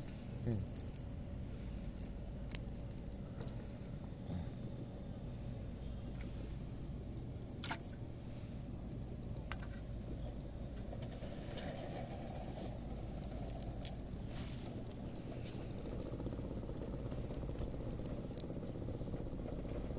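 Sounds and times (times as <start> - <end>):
low background rumble: 0.0 - 19.9.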